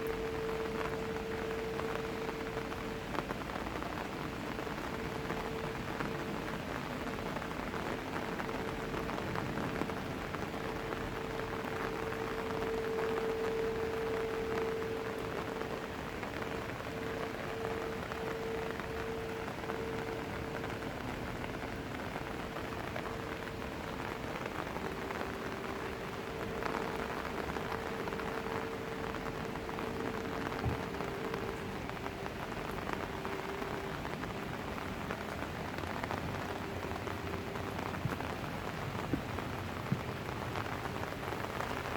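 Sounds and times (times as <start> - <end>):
rain pattering on surfaces: 0.0 - 41.9
steady hum: 0.0 - 41.9.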